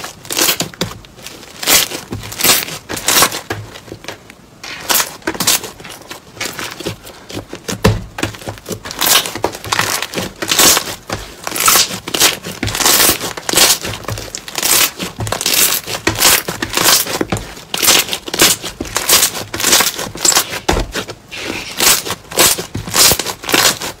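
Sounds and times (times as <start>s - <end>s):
slime squishing by hand: 0.0s - 24.0s.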